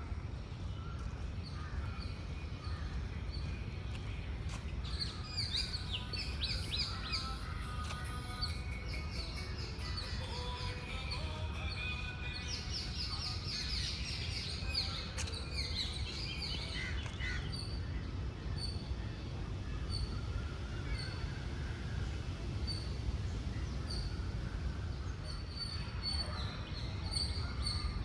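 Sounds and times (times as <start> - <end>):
birds chirping: 0.3 - 28.0.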